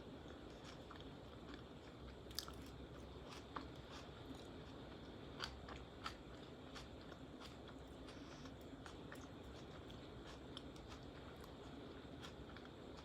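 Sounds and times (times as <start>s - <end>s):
chewing salad: 0.1s - 13.0s.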